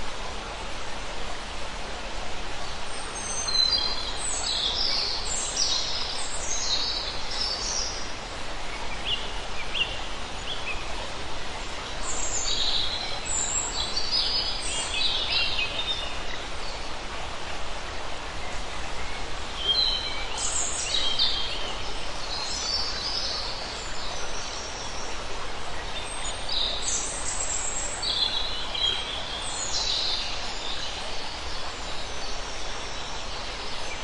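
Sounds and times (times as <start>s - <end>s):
stream babbling over rocks: 0.0s - 34.0s
songbird singing: 2.8s - 16.9s, 18.4s - 25.1s, 25.7s - 34.0s.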